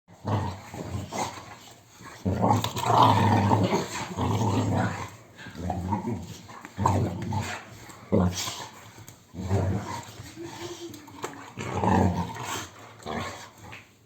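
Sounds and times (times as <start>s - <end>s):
dog growling: 0.1s - 13.6s.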